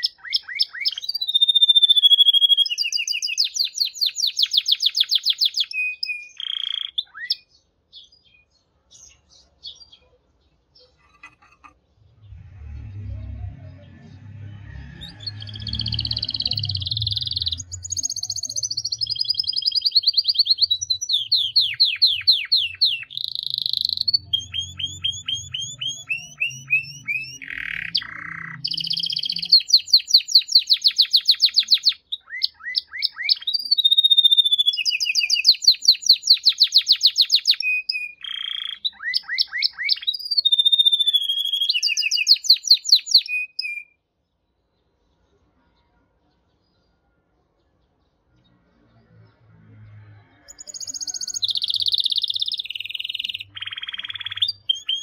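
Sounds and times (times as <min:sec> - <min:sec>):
canary singing trills: 0:00.0 - 0:44.0, 0:50.4 - 0:55.0.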